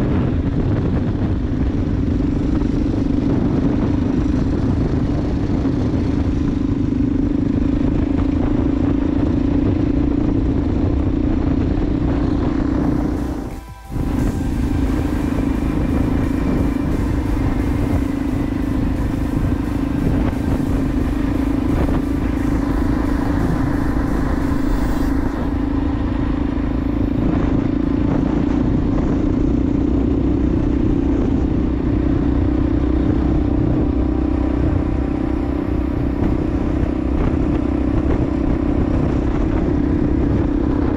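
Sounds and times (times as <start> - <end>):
motorcycle engine running: 0.0 - 40.9
road rumble: 0.0 - 40.9
wind noise on microphone: 0.0 - 40.9.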